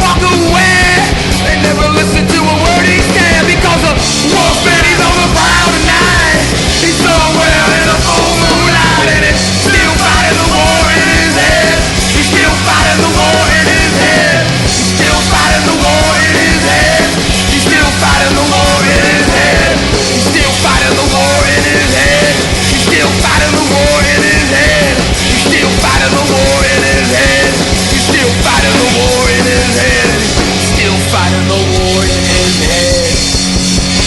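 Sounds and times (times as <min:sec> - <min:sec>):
person singing or shouting: 0:00.0 - 0:33.2
fast punk rock band: 0:00.0 - 0:34.0.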